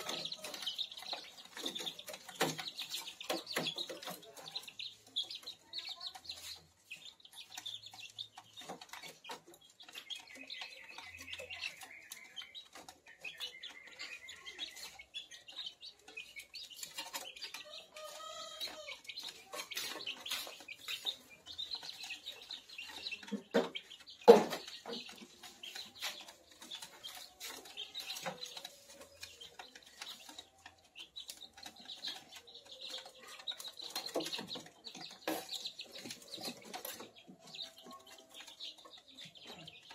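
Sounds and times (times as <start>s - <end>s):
chicks peeping and chirping: 0.0s - 39.9s
clicks and scuffles of chicks moving: 0.0s - 39.9s.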